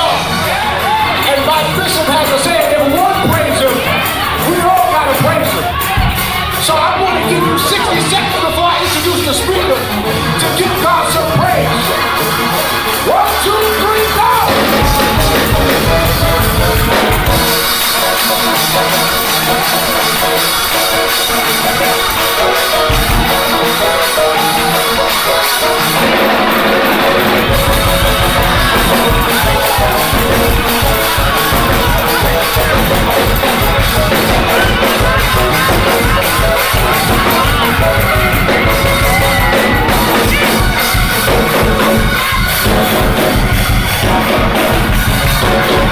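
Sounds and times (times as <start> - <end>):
band with drum kit: 0.0 - 45.9
choir singing gospel: 0.0 - 45.9.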